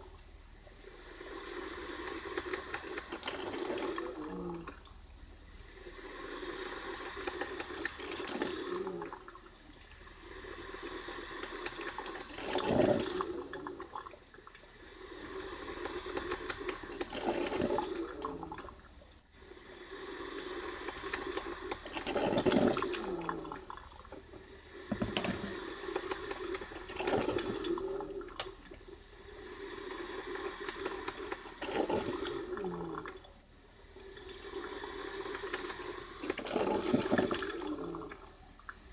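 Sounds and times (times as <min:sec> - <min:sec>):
coffee maker gurgling and hissing: 0:00.0 - 0:38.9.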